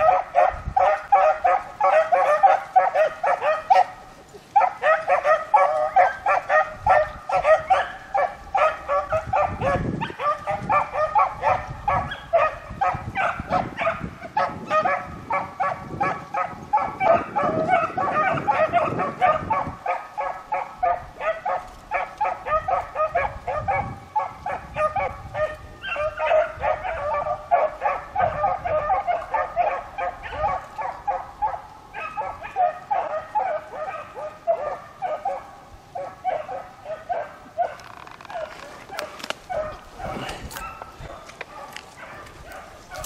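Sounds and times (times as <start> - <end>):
hounds baying: 0.0 - 43.0.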